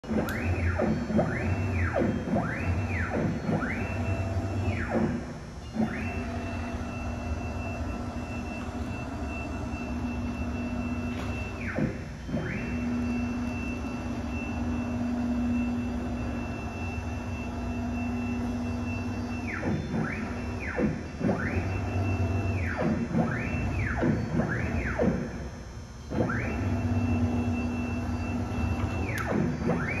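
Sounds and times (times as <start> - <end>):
high machine whine: 0.0 - 30.0.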